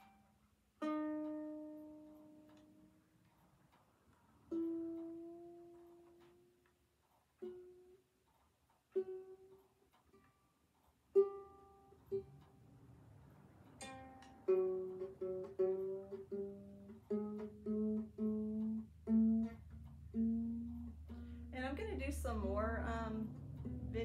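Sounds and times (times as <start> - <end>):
ukulele strings plucked: 0.0 - 8.2, 8.9 - 24.0.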